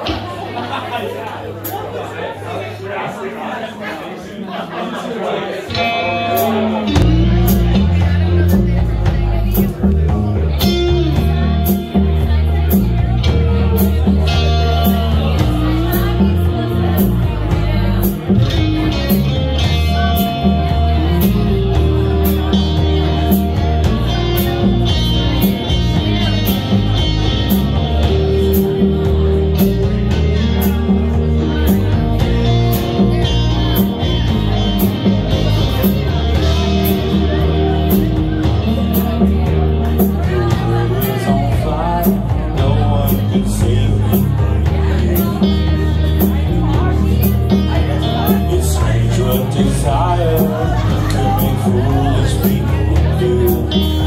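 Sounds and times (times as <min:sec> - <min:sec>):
drum kit: 0:05.7 - 0:54.0
electric guitars: 0:05.7 - 0:54.0.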